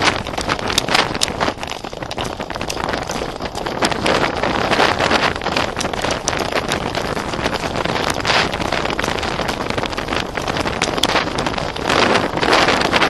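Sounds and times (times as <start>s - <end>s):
horse hooves and gear knocking: 0.0s - 13.0s
wind buffeting microphone: 0.0s - 13.0s.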